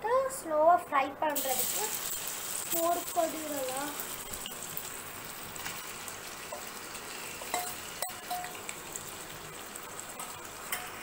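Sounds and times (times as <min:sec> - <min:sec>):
prawns sizzling in oil: 0:01.4 - 0:11.0.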